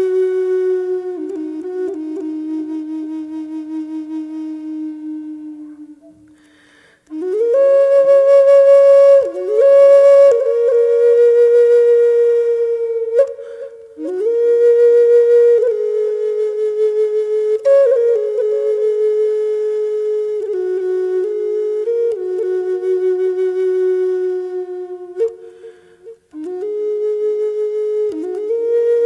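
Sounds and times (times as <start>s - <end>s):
solo flute playing slow notes: 0.0s - 29.0s.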